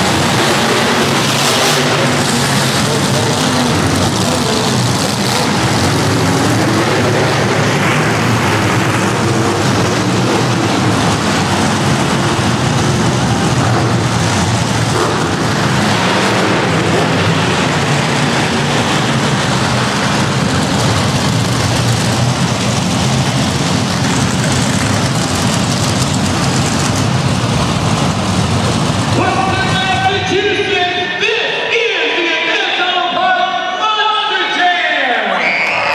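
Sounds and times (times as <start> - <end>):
loud truck engines echoing: 0.0 - 35.9.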